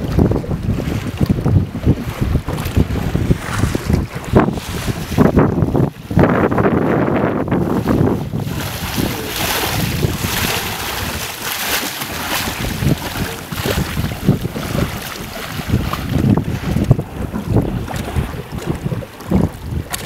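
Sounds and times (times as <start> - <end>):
water slapping against hull: 0.0 - 20.0
wind buffeting microphone: 0.0 - 20.0.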